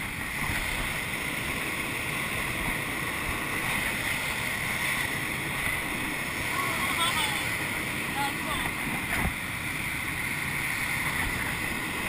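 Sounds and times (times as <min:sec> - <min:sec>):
airflow rushing around cockpit: 0:00.0 - 0:12.0.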